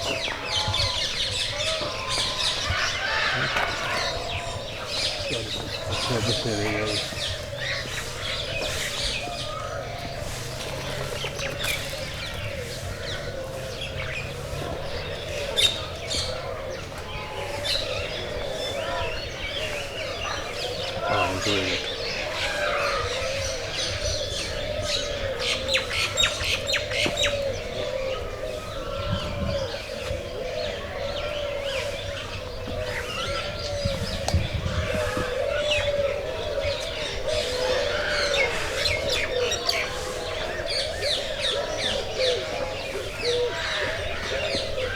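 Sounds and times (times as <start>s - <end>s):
birds chirping: 0.0s - 44.9s
chorus of lower bird calls: 0.0s - 44.9s.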